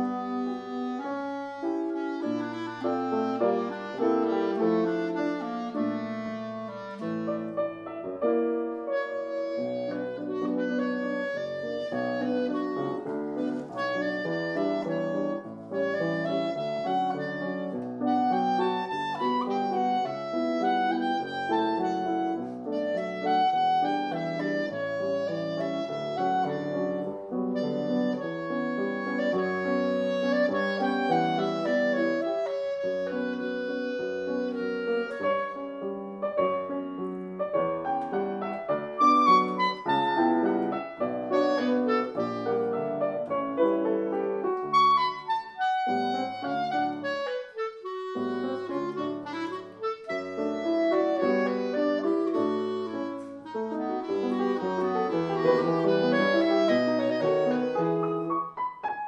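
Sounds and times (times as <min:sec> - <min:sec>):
clarinet melody: 0:00.0 - 0:59.0.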